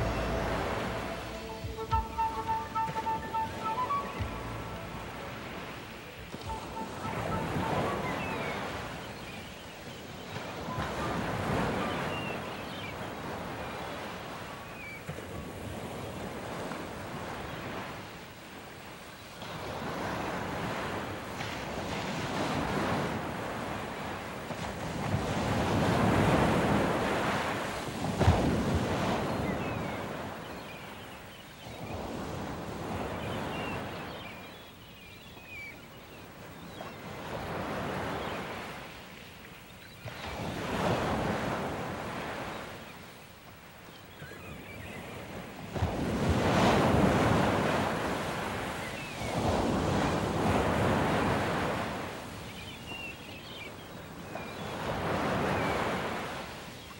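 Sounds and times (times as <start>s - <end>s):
waves breaking and washing in: 0.0s - 56.9s.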